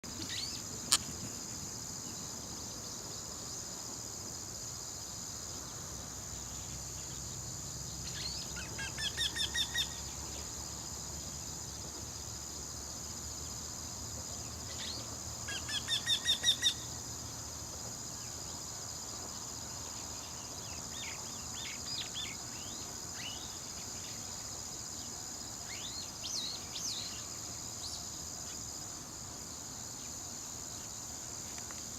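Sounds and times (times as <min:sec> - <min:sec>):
high insect drone: 0:00.0 - 0:31.9.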